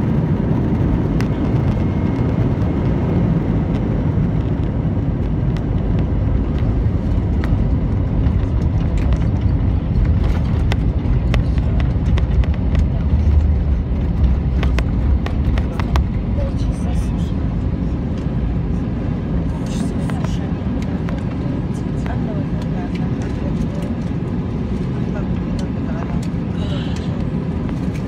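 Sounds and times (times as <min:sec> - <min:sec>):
deep rumble: 0:00.0 - 0:28.0
jet engine roar: 0:00.0 - 0:28.0.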